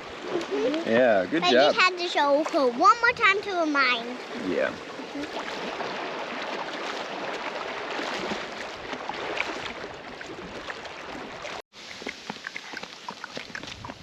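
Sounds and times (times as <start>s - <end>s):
lake water lapping at shore: 0.0s - 14.0s
small water splashes: 0.0s - 14.0s.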